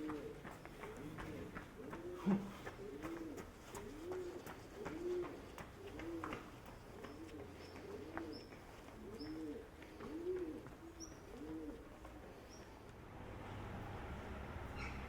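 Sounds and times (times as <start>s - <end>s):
pigeons cooing: 0.0s - 12.6s.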